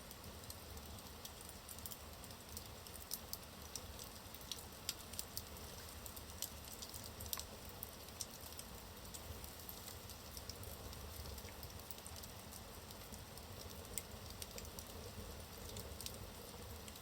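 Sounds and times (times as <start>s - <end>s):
soft steady fire hiss: 0.0s - 17.0s
logs crackling and popping: 0.2s - 17.0s.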